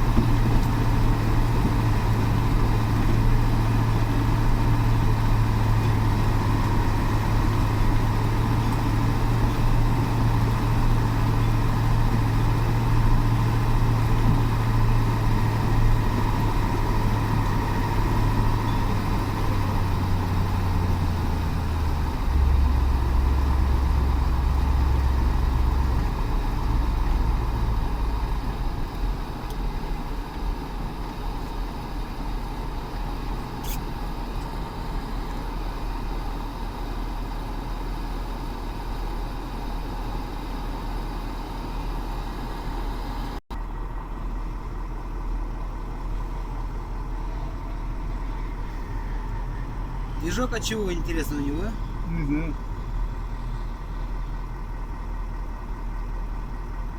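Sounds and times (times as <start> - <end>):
truck engine running: 0.0 - 56.9.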